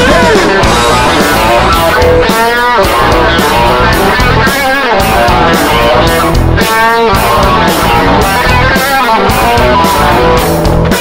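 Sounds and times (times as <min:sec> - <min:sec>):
bass guitar: 0:00.0 - 0:11.0
drums with a steady beat: 0:00.0 - 0:11.0
electric guitars: 0:00.0 - 0:11.0.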